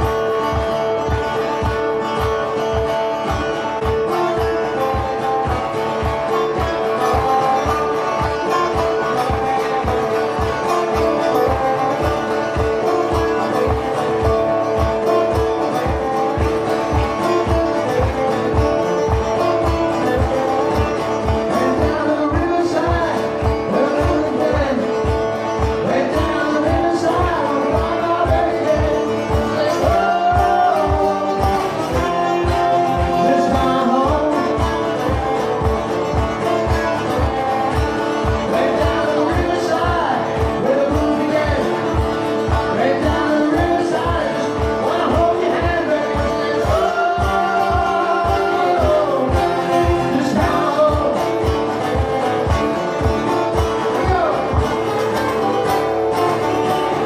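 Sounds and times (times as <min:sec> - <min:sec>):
acoustic guitar strumming: 0:00.0 - 0:57.0
man singing: 0:00.0 - 0:57.0.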